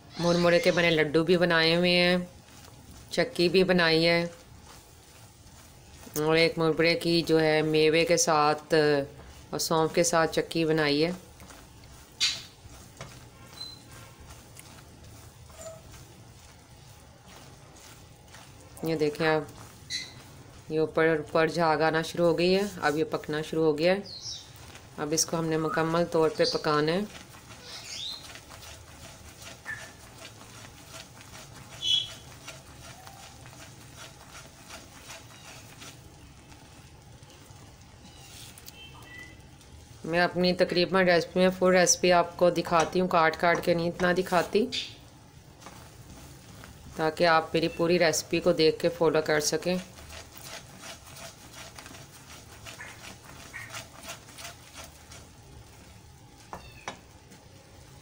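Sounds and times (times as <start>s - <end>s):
spatula stirring syrup in pan: 0.0s - 58.0s.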